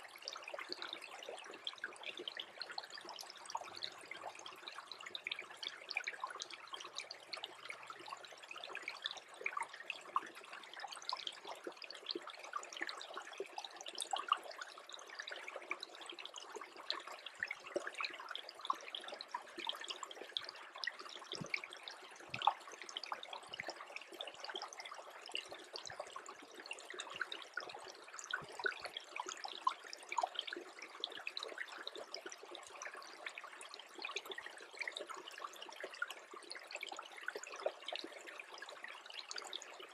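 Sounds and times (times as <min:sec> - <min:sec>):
brook trickling and dripping: 0:00.0 - 0:39.9.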